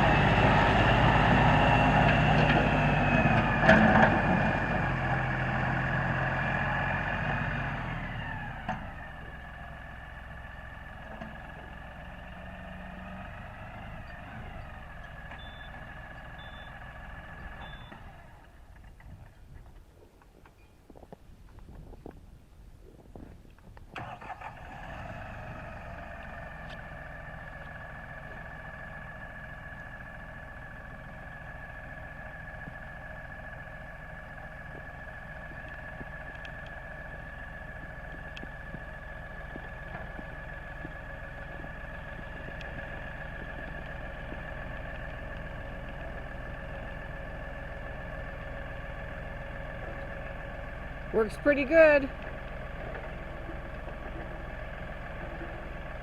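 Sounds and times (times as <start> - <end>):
tractor engine starting and running: 0.0 - 56.0.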